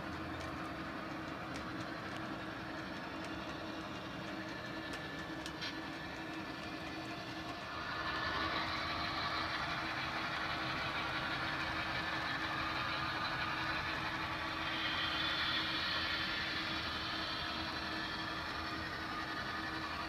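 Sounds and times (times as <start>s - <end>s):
constant hum: 0.0s - 20.0s
model train running on track: 0.0s - 20.0s.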